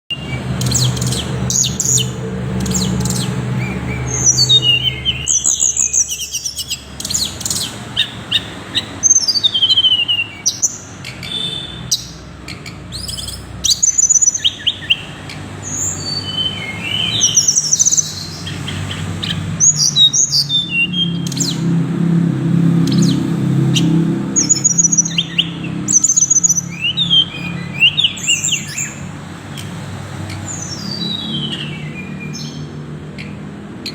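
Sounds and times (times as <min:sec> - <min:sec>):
bird singing high phrases: 0:00.1 - 0:33.9.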